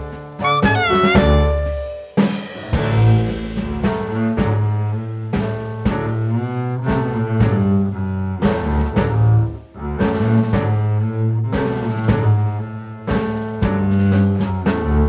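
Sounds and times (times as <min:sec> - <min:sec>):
background music with bass and strings: 0:00.0 - 0:02.0, 0:02.7 - 0:15.0.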